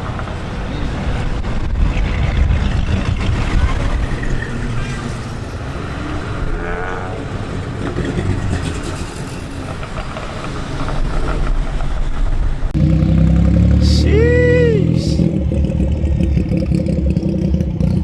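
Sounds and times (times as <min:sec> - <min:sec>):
loud engine close by: 0:00.0 - 0:18.0
traffic engines rumbling: 0:00.0 - 0:18.0.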